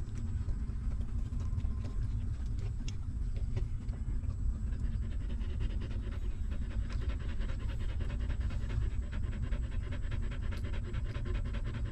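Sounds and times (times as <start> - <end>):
dog panting: 0.0 - 11.9
steady low rumble: 0.0 - 11.9.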